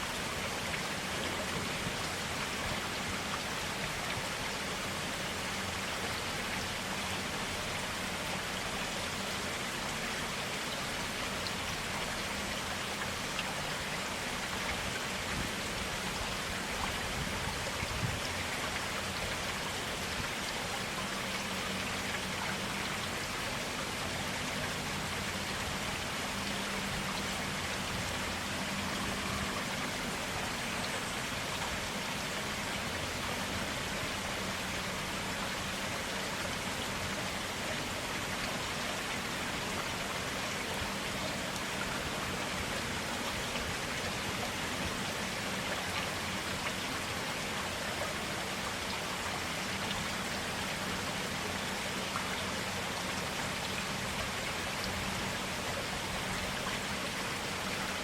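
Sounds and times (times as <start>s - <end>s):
stream water rushing and splashing: 0.0s - 58.0s.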